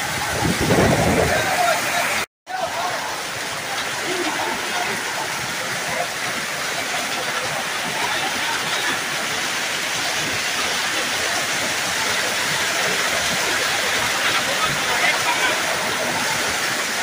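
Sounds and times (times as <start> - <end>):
heavy rain and hail: 0.0 - 17.0.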